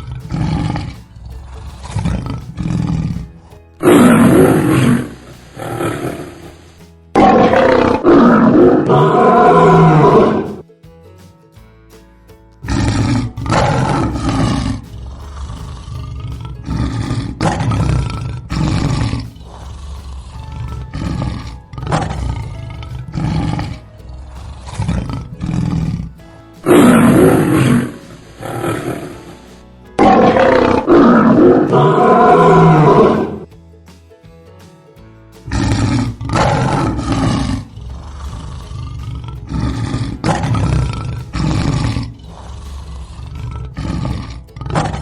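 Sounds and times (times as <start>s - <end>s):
lions roaring: 0.0s - 10.6s, 12.7s - 29.4s, 30.0s - 33.5s, 35.5s - 45.0s.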